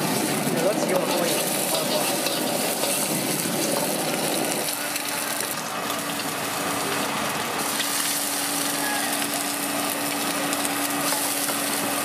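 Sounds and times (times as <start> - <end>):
eggs sizzling in oil: 0.0 - 12.0
ladle scraping wok: 0.0 - 12.0.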